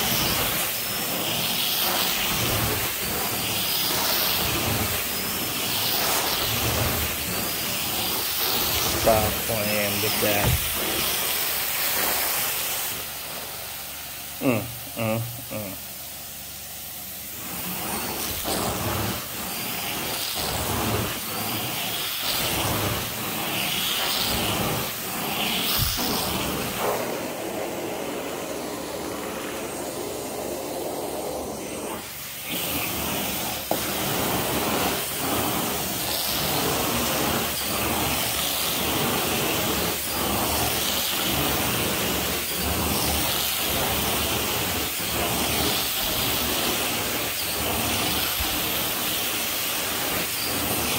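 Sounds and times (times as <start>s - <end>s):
carpet extraction wand sucking: 0.0s - 13.7s, 17.3s - 50.9s.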